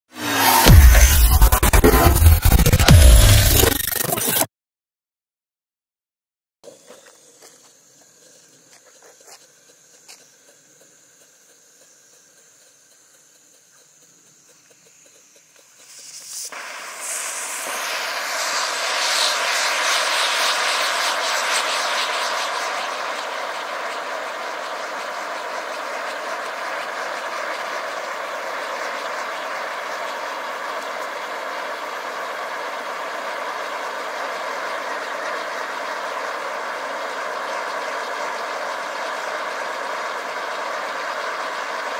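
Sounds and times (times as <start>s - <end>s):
firework spinner hissing: 0.1s - 4.4s, 6.7s - 41.9s.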